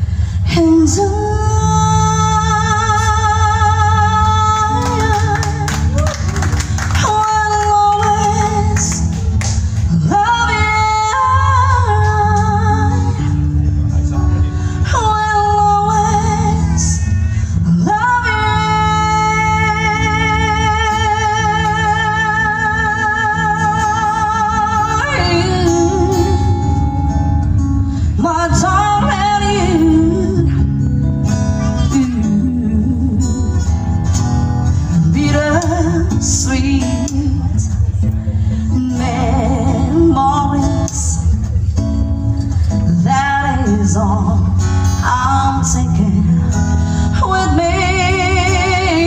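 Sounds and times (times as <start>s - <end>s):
woman singing: 0.4s - 13.4s, 14.8s - 26.9s, 28.2s - 30.8s, 31.7s - 33.6s, 34.9s - 38.0s, 38.6s - 41.4s, 42.9s - 49.0s
plucked acoustic guitar: 0.4s - 49.0s.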